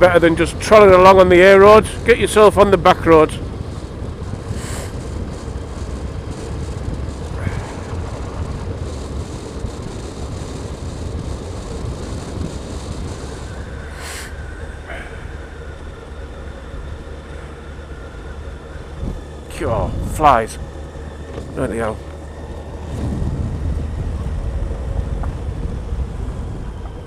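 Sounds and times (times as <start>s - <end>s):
motorcycle engine running: 0.0s - 27.0s
wind rush: 0.0s - 27.0s.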